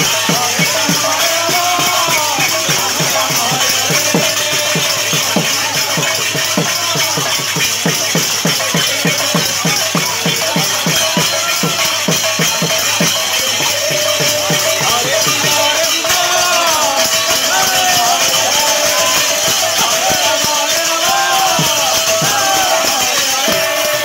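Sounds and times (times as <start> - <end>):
folk drums beating: 0.0 - 24.0.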